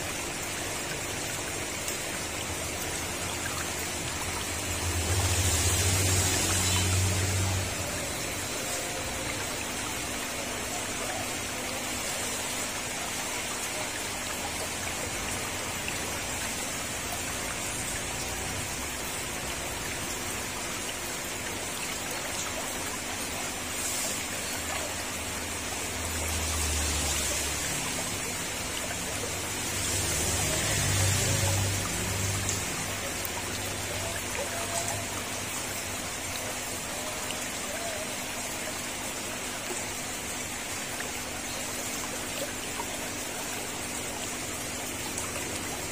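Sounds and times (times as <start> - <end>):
mist maker water hiss: 0.0 - 19.6, 20.4 - 45.9.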